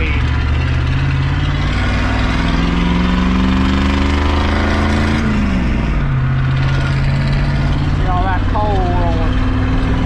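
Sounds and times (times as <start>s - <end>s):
diesel truck engine accelerating: 0.0s - 10.0s
road noise: 0.0s - 10.0s.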